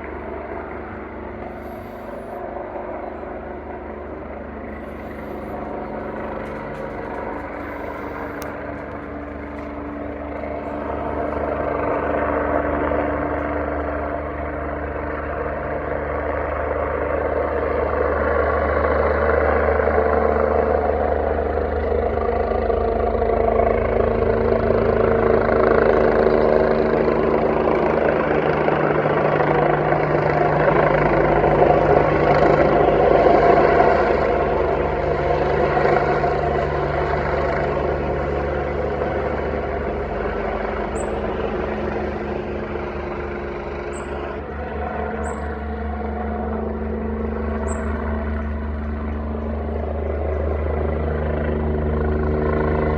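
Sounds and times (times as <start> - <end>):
helicopter rotor and engine drone: 0.0 - 52.9.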